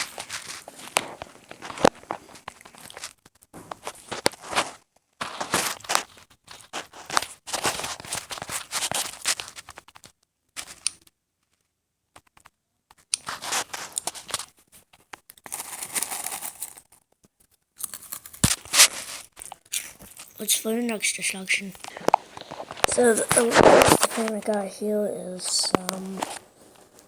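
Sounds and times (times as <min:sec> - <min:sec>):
crunching and crackling: 0:00.0 - 0:11.6, 0:12.2 - 0:20.9, 0:21.7 - 0:27.0.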